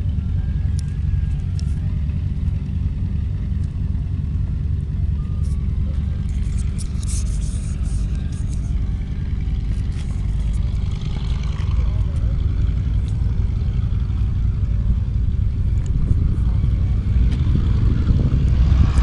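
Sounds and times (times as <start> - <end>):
propeller plane engines rumbling: 0.0 - 19.0.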